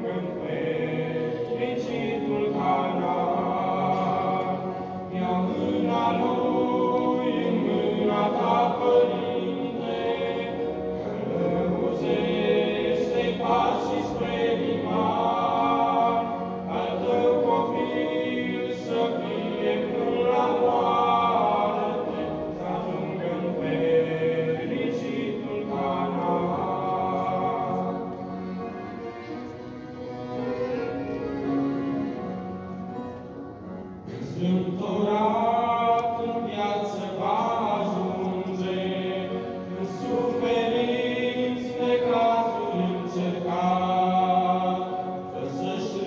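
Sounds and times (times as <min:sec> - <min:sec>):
men singing in harmony: 0:00.0 - 0:29.5, 0:34.0 - 0:46.0
accordion: 0:00.0 - 0:46.0.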